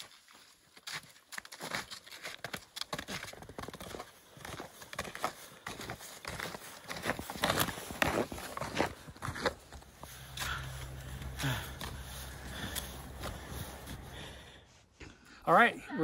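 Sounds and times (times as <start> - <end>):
footsteps crunching in snow: 0.0 - 14.6.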